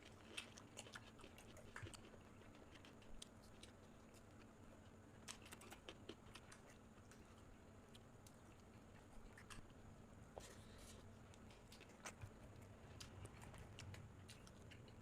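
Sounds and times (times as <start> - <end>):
person chewing: 0.0 - 4.4, 5.2 - 15.0
low steady hum: 0.0 - 15.0.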